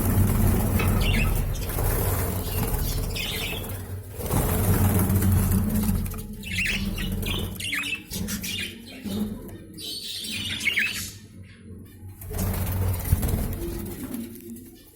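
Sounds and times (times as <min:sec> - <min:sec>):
budgerigars chirping and chattering: 0:00.0 - 0:12.2.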